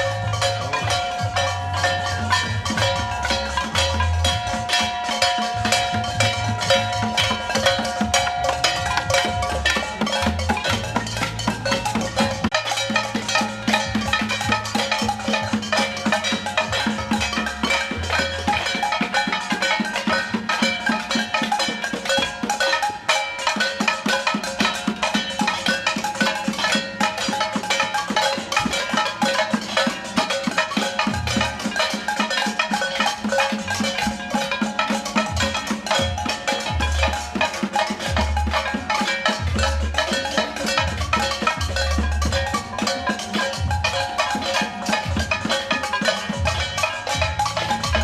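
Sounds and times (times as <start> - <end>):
clatter of percussion and metal: 0.0 - 48.0.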